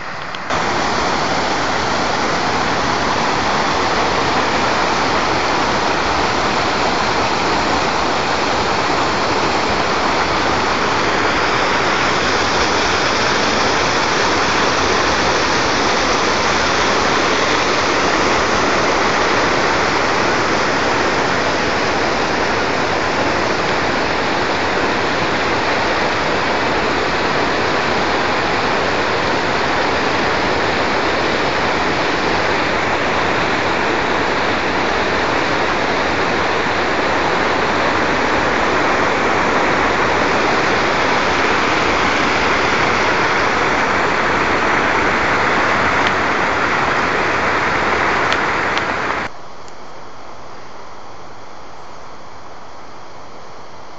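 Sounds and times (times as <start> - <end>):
waterfall rushing over rocks: 0.0 - 49.3.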